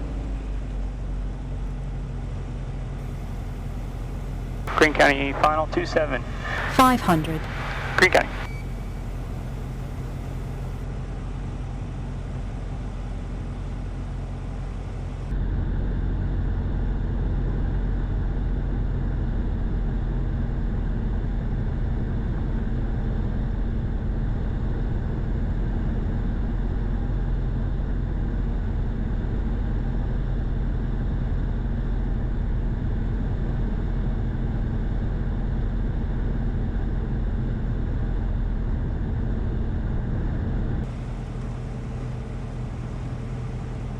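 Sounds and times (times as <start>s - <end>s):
light aircraft engine drone: 0.0s - 43.9s.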